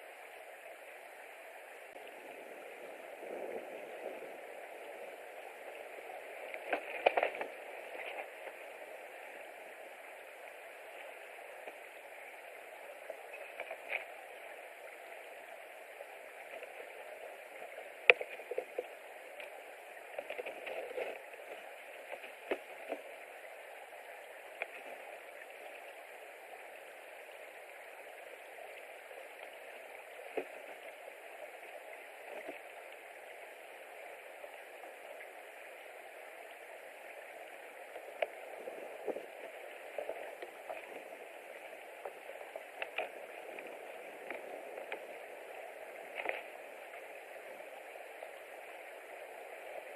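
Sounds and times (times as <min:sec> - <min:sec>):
steady microphone hiss: 0:00.0 - 0:49.9.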